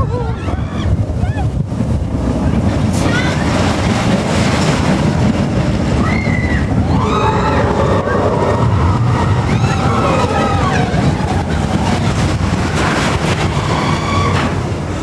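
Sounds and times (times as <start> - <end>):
amusement ride rumbling: 0.0 - 15.0
wind buffeting microphone: 0.0 - 15.0.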